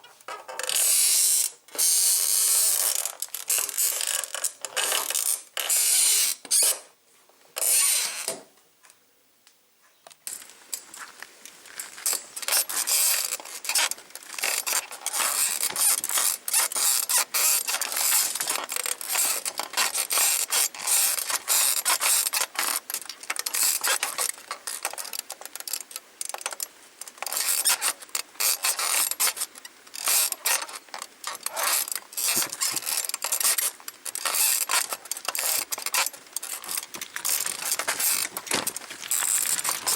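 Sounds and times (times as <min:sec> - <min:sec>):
bicycle saddle springs squeaking: 0:00.3 - 0:06.8, 0:07.6 - 0:08.3, 0:12.0 - 0:26.6, 0:27.2 - 0:39.9.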